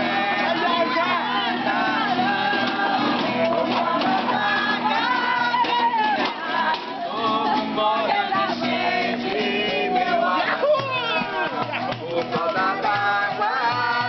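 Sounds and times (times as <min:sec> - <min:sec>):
group of people singing: 0:00.0 - 0:14.0
rhythmic percussive beats: 0:00.0 - 0:14.0.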